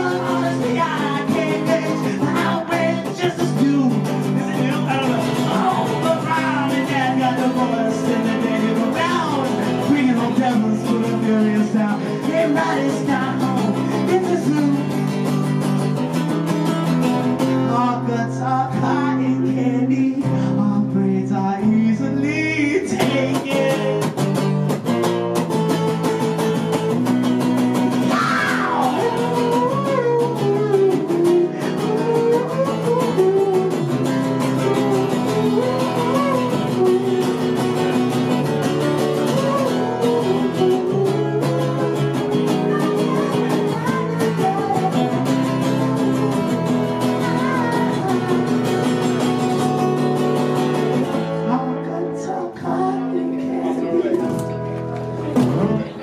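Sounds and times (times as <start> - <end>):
man singing: 0.0 - 16.2, 17.0 - 24.7, 28.0 - 54.6
acoustic guitar strumming: 0.0 - 56.0.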